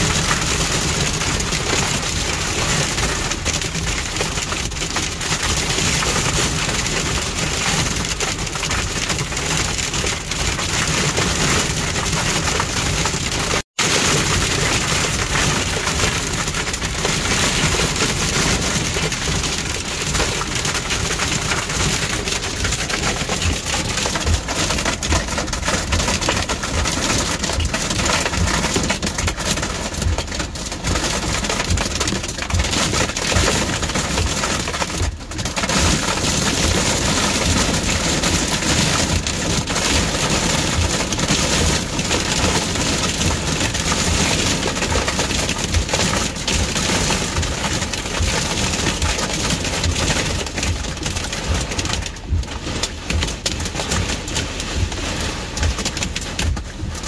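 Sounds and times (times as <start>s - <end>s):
rain and hail pelting vehicle: 0.0s - 57.0s.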